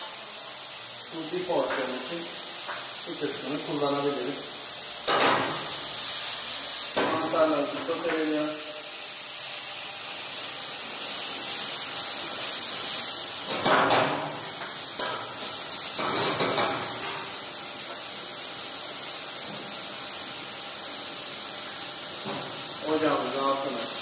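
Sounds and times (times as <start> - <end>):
mushrooms sizzling in oil: 0.0 - 24.0.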